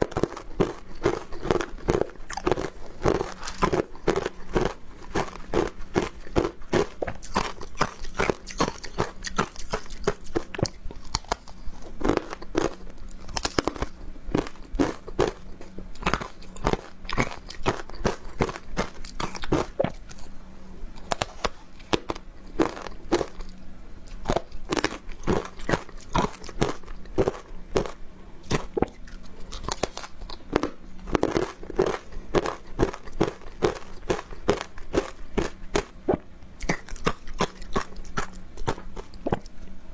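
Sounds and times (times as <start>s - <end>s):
chewing crunchy ice: 0.0s - 20.3s, 21.0s - 39.6s.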